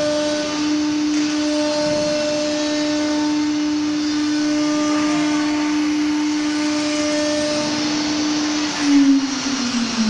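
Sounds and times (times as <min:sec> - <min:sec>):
noisy hum: 0:00.0 - 0:10.0
router motor whine: 0:00.0 - 0:10.0.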